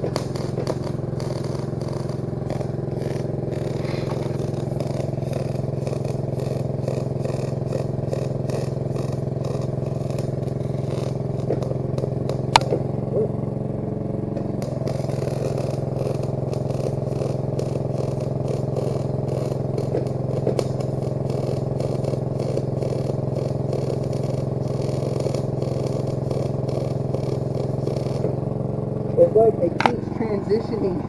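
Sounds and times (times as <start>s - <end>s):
welder engine running: 0.0s - 31.0s
welding arc crackling: 0.0s - 31.0s.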